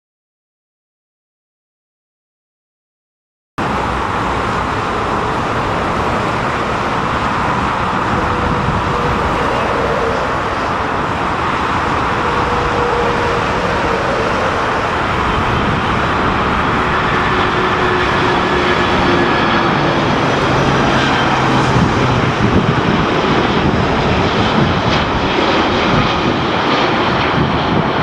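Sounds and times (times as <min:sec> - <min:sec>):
faint engine whine: 0:03.6 - 0:27.6
jet aircraft engines: 0:03.6 - 0:28.0
wind blowing over microphone: 0:03.6 - 0:28.0.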